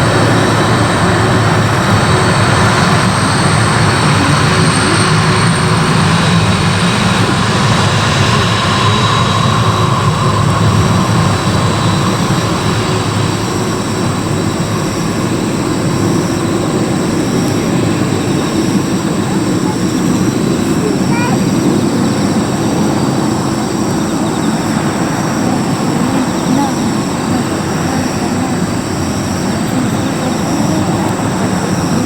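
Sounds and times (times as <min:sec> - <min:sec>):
airliner engines roaring: 0:00.0 - 0:32.0.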